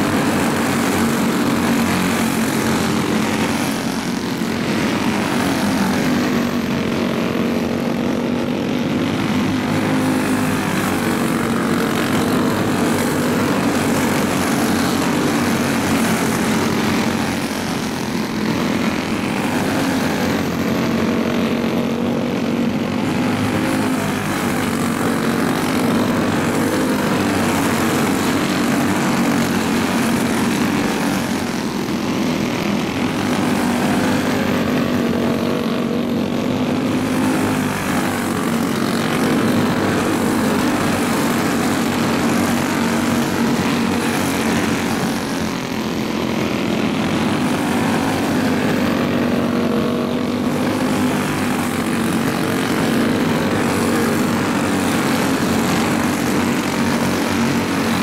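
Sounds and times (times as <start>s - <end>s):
race car engines buzzing: 0.0s - 58.0s.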